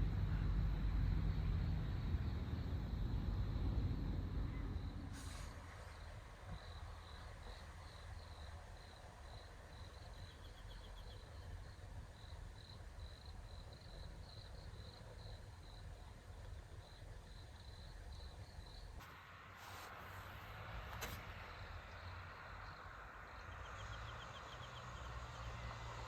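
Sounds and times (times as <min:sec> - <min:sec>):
faint low rumble: 0:00.0 - 0:24.7
crickets chirping: 0:00.3 - 0:19.0, 0:21.0 - 0:26.0.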